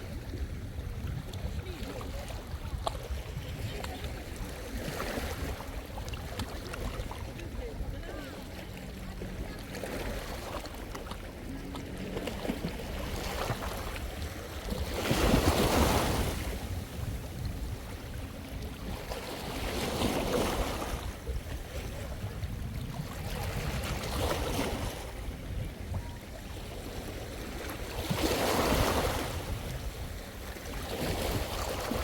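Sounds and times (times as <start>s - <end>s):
sea waves washing onto shore: 0.0s - 32.0s
wind rumbling on microphone: 0.0s - 32.0s.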